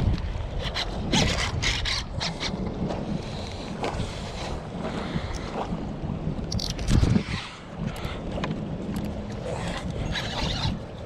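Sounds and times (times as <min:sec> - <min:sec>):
water slapping against hull: 0:00.0 - 0:11.0
wind buffeting microphone: 0:00.0 - 0:11.0.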